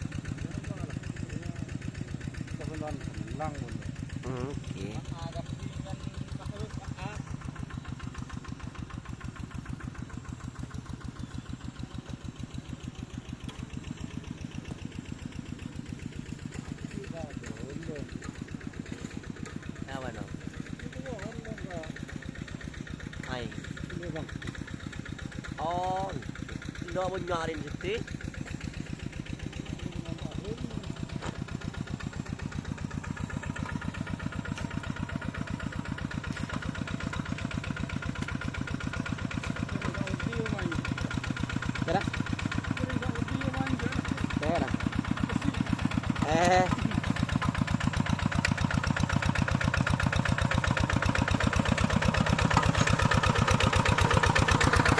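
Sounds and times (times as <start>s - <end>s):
tractor engine chugging: 0.0s - 54.9s.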